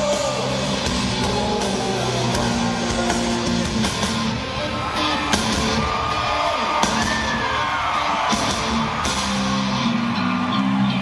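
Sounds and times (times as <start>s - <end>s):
crowd yelling and whooping: 0.0s - 11.0s.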